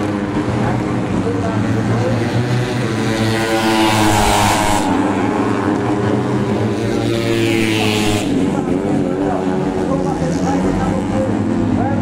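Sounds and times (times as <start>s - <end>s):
motorcycles passing at high revs: 0.0s - 12.0s.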